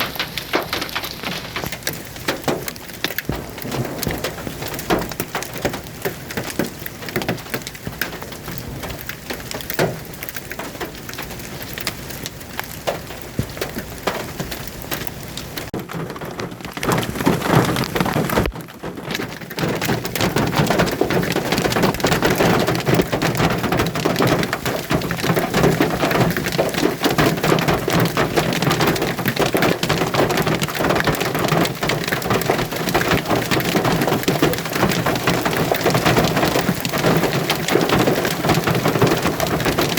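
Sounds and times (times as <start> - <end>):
hailstones pelting down: 0.0 - 39.9.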